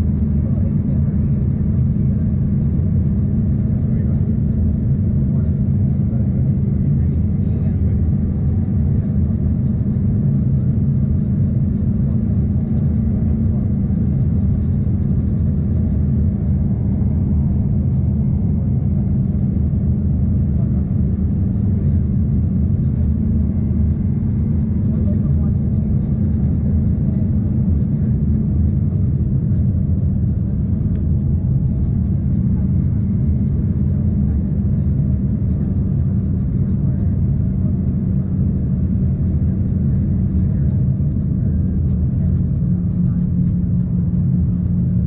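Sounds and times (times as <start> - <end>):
jet cabin rumble: 0.0 - 45.0.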